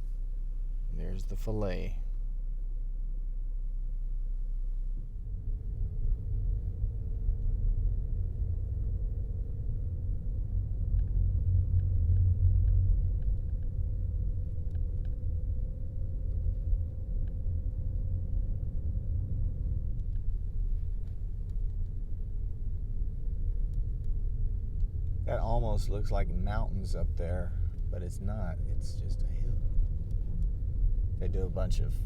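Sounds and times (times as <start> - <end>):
car driving rumble from inside: 0.0 - 32.0.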